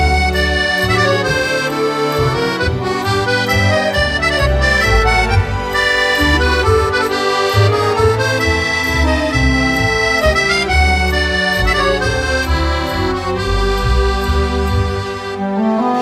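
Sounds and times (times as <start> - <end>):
accordion music: 0.0 - 16.0.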